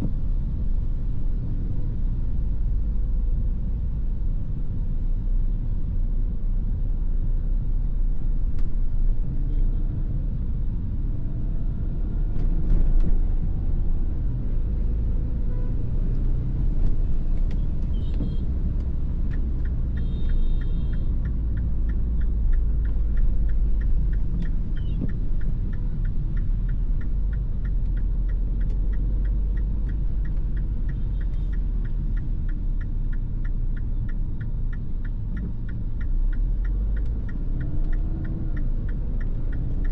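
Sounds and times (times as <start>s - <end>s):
car engine and road rumble: 0.0s - 39.9s
turn signal ticking: 0.0s - 39.9s.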